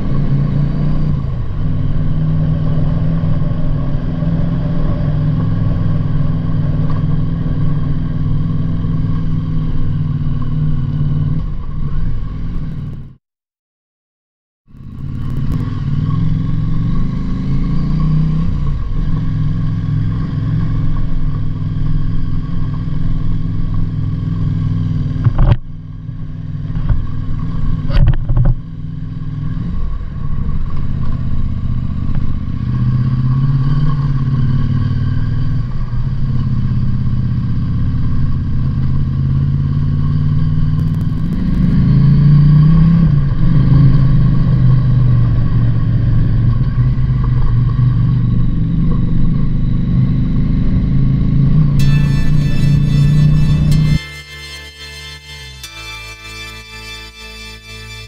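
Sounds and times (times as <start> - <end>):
motorcycle engine running: 0.0 - 13.2, 14.7 - 58.0.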